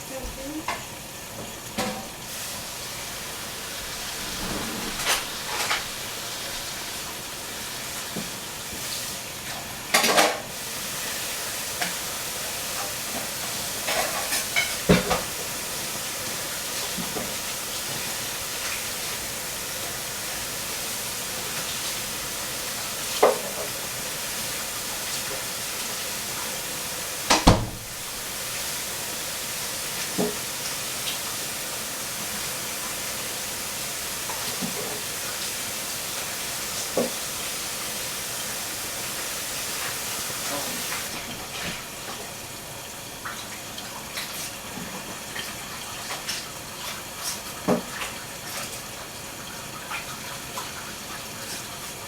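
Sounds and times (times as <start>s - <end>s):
food sizzling in hot oil: 0.0s - 46.0s.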